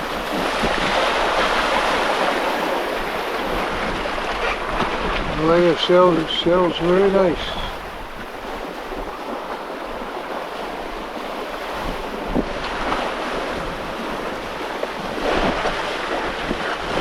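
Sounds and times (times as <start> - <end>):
water splashing along a hull: 0.0 - 17.0
wind buffeting the microphone: 0.0 - 17.0.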